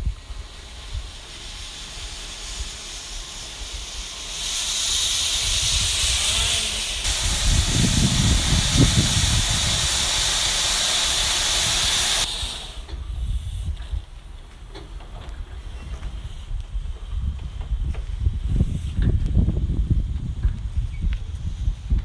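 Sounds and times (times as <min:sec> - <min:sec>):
steam hissing: 0:00.0 - 0:22.0.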